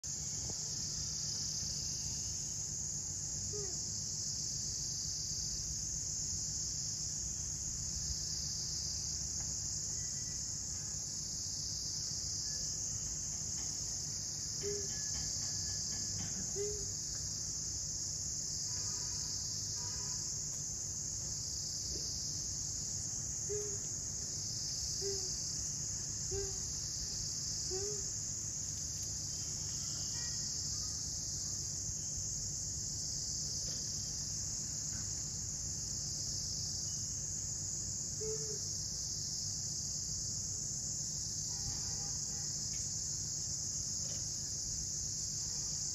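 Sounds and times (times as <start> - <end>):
high-pitched insect chorus: 0.1 - 45.9.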